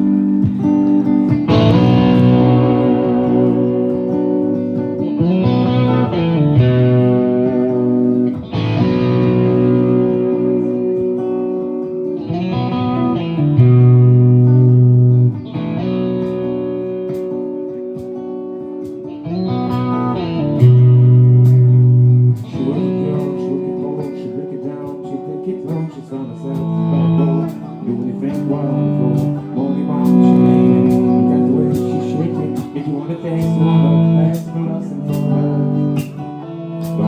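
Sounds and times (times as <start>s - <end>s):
guitar chords: 0.0s - 37.0s.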